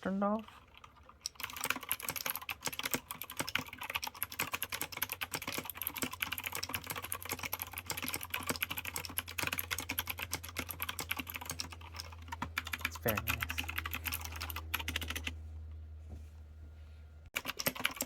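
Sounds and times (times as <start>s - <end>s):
faint low hum: 0.0s - 18.0s
fast mechanical keyboard typing: 0.4s - 15.3s, 17.4s - 18.0s.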